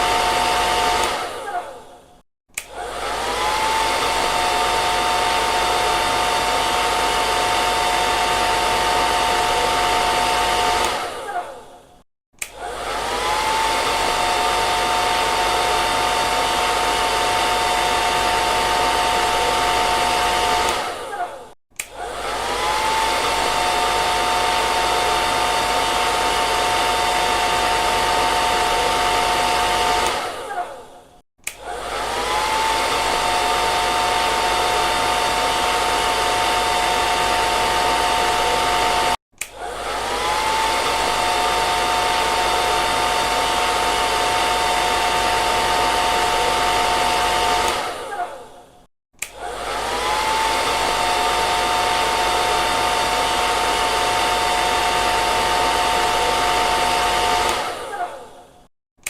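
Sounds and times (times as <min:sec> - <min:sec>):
hair dryer blowing: 0:00.0 - 0:11.8, 0:12.4 - 0:58.7.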